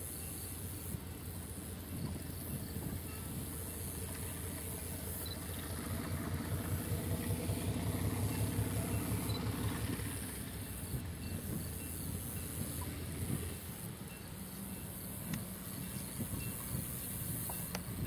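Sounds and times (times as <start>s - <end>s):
diesel locomotive engine rumbling: 0.0s - 18.0s.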